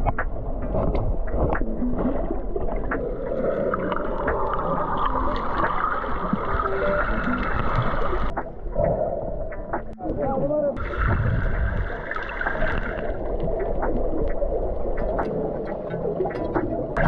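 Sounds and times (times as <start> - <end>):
sharp underwater clicks: 0.0 - 10.0, 12.1 - 17.0
muffled water gurgling and sloshing: 0.0 - 17.0.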